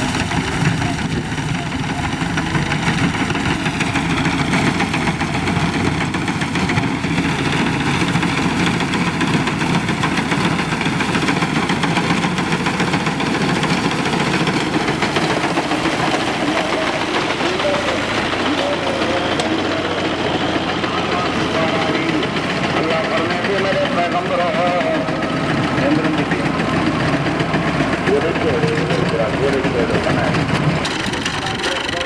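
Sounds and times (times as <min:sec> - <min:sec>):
thresher machine din: 0:00.0 - 0:32.0
tractor engine running: 0:00.0 - 0:32.0.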